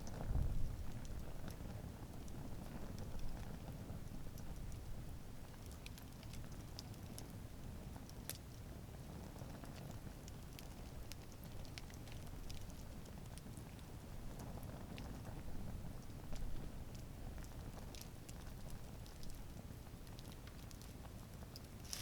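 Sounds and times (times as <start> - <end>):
burning wood crackling and popping: 0.0 - 22.0
campfire flames rushing: 0.1 - 22.0.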